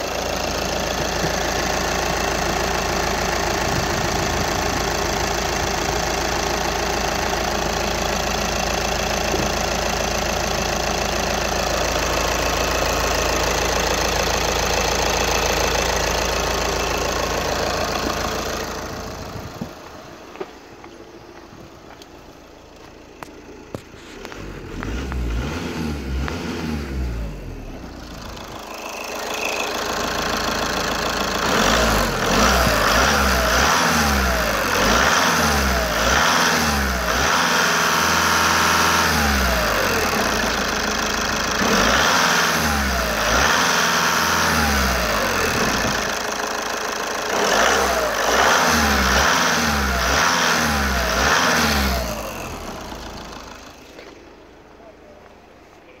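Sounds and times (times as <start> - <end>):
diesel engine starting and revving: 0.0 - 56.0.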